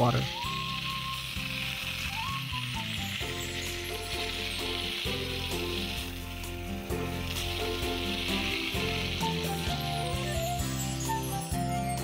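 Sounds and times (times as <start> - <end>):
hose spray hissing: 0.0 - 11.0
background music: 0.0 - 12.0.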